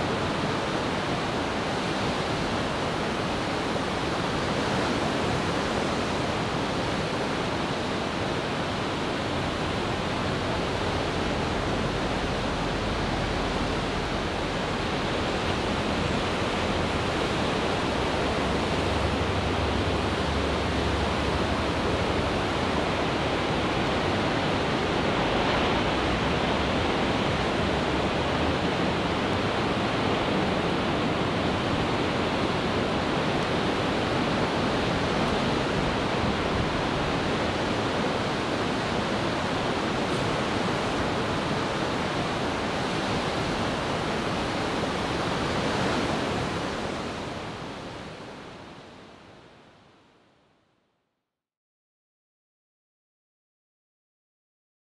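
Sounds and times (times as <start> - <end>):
ocean surf breaking: 0.0 - 49.2.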